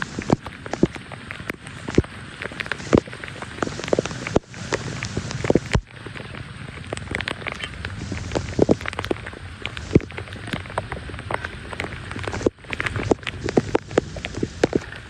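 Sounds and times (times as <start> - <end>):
rain and water splashing: 0.0 - 15.0.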